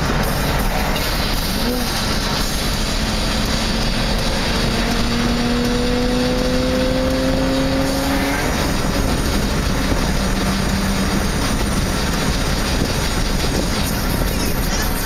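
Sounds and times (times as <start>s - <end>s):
car engine accelerating: 0.0s - 15.0s
road noise: 0.0s - 15.0s.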